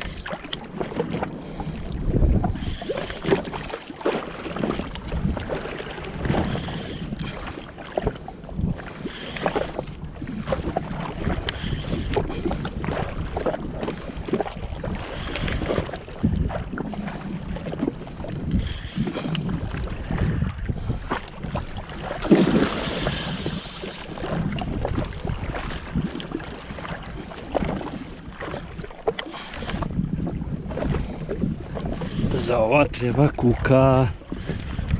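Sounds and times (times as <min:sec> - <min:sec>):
water splashing against hull: 0:00.0 - 0:34.9
wind buffeting microphone: 0:00.0 - 0:34.9.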